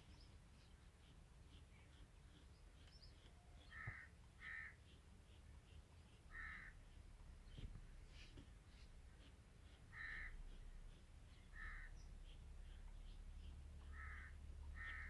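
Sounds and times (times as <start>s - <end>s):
bird calling: 0.0s - 7.8s, 8.7s - 15.0s.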